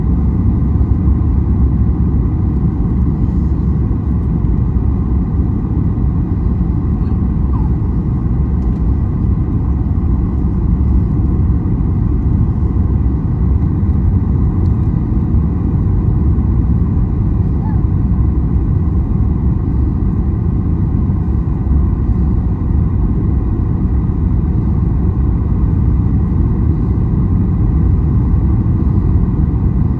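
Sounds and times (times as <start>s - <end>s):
airliner cabin rumble: 0.0s - 29.9s.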